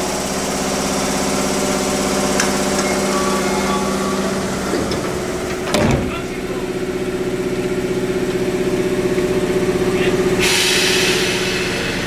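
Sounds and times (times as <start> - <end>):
train underfloor equipment drone: 0.0 - 12.0.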